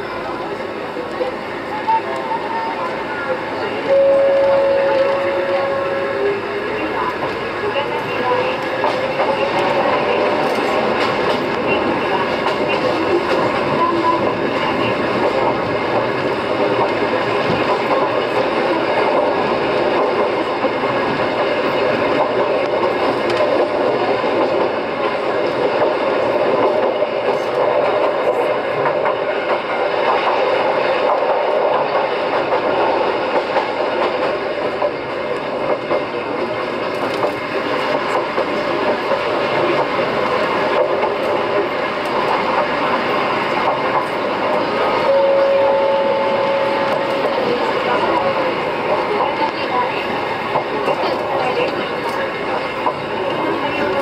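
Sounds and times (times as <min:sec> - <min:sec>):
electric train running on track: 0:00.0 - 0:54.0.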